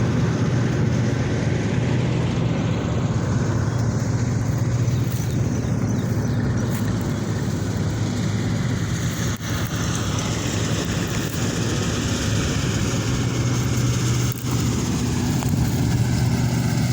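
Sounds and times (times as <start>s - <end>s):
harvester engine humming: 0.0s - 16.9s.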